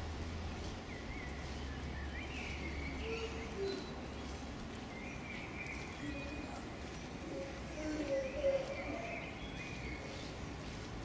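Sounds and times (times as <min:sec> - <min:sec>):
small birds chirping: 0:00.4 - 0:11.0.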